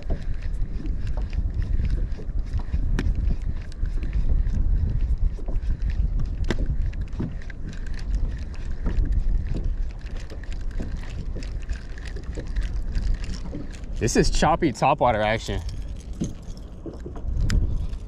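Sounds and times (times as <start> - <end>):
water slapping against kayak hull: 0.0 - 14.5
wind buffeting microphone: 0.0 - 18.0.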